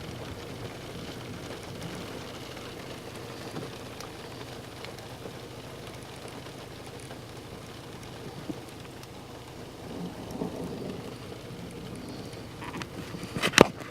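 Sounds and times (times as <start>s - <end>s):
steady rain: 0.0s - 13.9s
thunder rumble: 0.0s - 13.9s.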